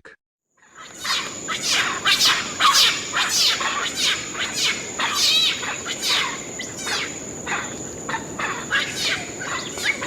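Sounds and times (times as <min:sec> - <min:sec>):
macaques squealing: 0:00.7 - 0:10.0.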